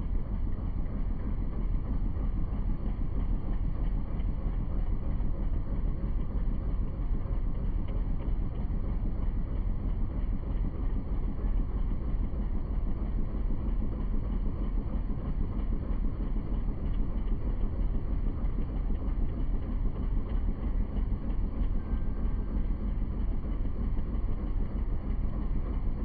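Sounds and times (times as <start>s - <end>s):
boat motor rumbling: 0.2s - 26.0s.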